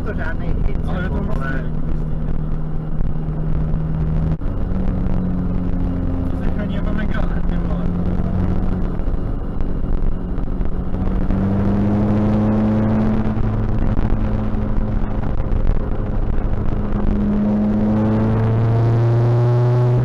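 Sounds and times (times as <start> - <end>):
diesel engine drone inside car: 0.0 - 20.0.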